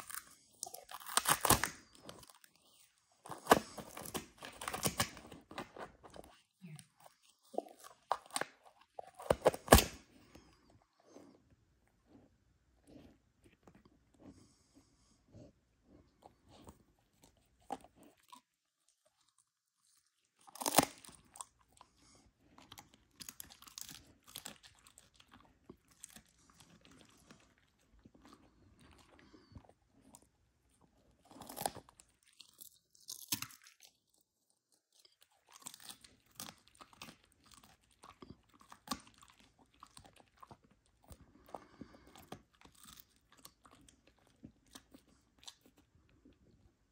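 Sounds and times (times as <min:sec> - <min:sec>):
dog crunching a chew treat: 0:00.0 - 0:11.5, 0:16.1 - 0:46.7.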